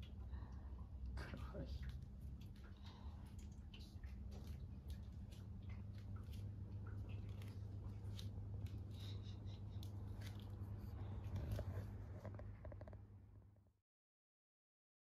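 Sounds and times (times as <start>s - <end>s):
low room hum: 0.0s - 13.8s.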